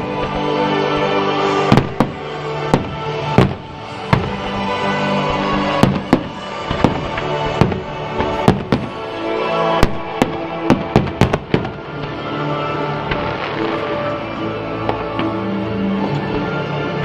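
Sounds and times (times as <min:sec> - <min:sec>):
fireworks bangs: 0:00.0 - 0:16.5
music: 0:00.0 - 0:17.0.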